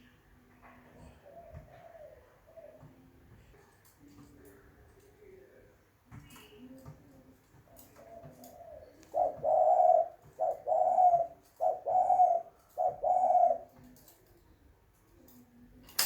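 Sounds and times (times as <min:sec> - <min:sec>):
dove cooing: 0:00.4 - 0:14.4.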